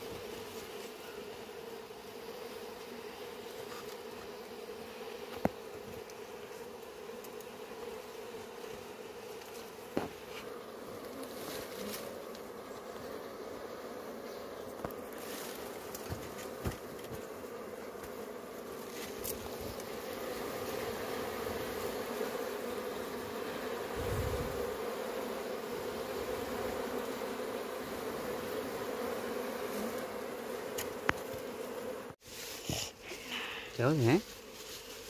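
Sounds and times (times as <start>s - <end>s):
honeybees buzzing: 0.0s - 35.0s.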